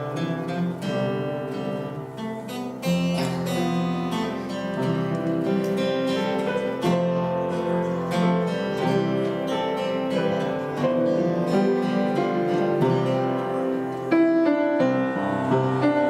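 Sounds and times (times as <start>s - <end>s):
acoustic guitar melody: 0.0s - 16.0s.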